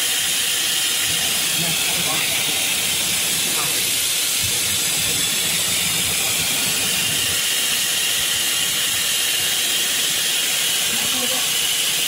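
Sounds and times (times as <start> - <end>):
cnc router spindle hissing: 0.0 - 12.0.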